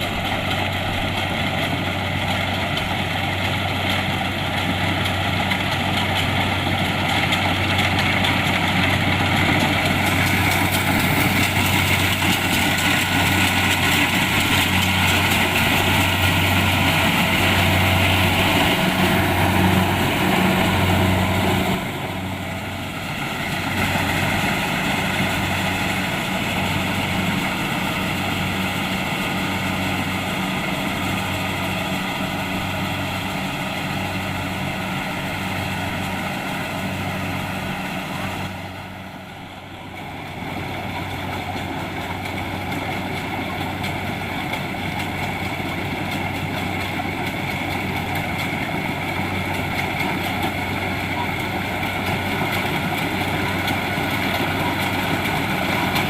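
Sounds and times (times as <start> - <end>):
combine harvester engine humming: 0.0 - 56.0.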